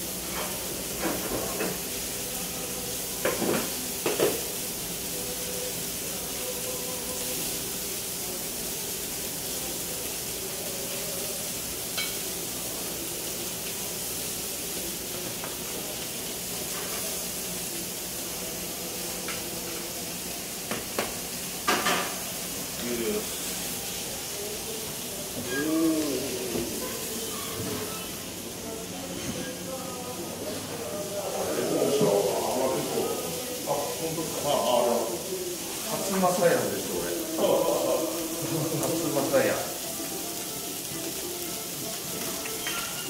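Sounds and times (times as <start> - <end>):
steaks sizzling on platters: 0.0 - 43.0.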